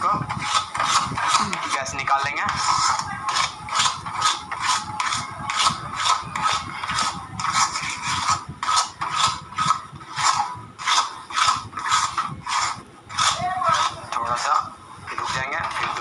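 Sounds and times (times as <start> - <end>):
spoon scraping thick mixture in pan: 0.0 - 16.0.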